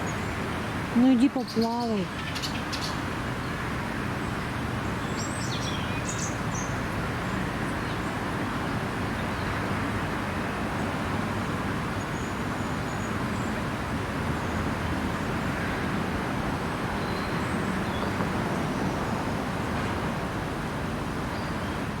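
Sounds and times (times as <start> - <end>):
low rumble of distant traffic: 0.0 - 22.0.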